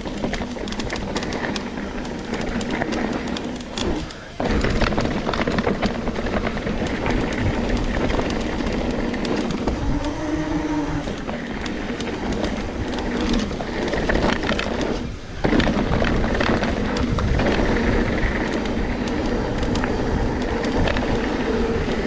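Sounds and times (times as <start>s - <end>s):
bike rattles and clicks: 0.0s - 22.0s
wind and tyre noise: 0.0s - 22.0s.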